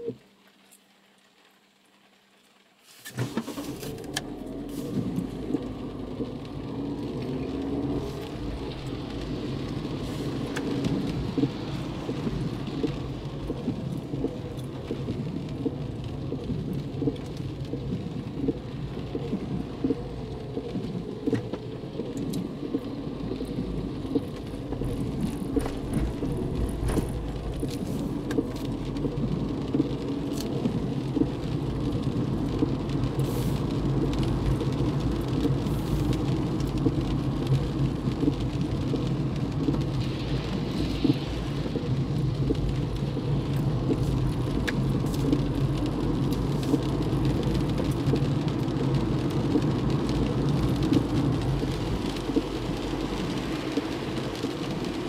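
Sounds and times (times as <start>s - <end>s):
car road and engine rumble: 0.0s - 55.0s
rain pattering on car: 0.0s - 55.0s.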